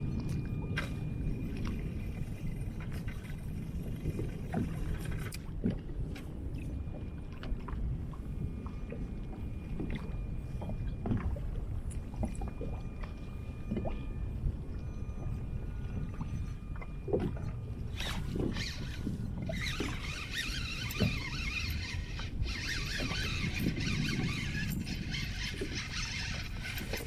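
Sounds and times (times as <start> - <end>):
water sloshing against hull: 0.0 - 27.0
wind rumble on microphone: 0.0 - 27.0.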